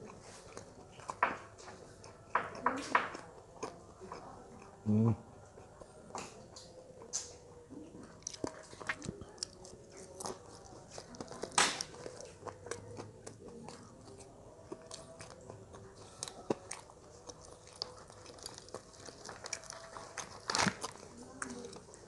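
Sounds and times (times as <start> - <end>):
crunchy chewing of fried food: 0.0 - 22.0.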